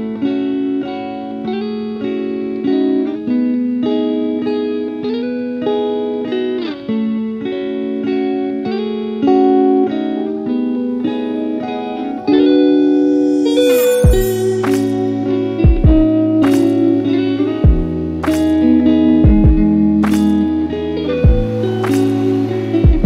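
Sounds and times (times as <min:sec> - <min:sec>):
plucked-string instrumental music: 0:00.0 - 0:23.0.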